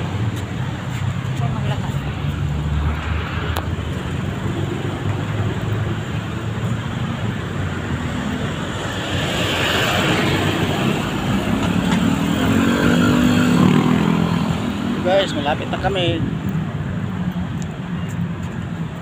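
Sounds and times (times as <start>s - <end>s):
vehicle passing: 0.0s - 16.2s
road traffic rumble: 0.0s - 19.0s.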